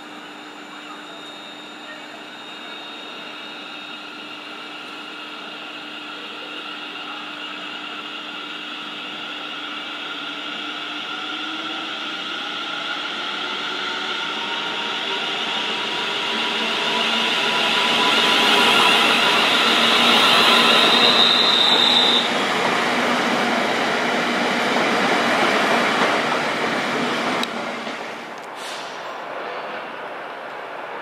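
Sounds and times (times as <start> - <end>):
electric train arriving: 0.0 - 31.0
train squealing: 0.2 - 27.2, 28.6 - 30.2.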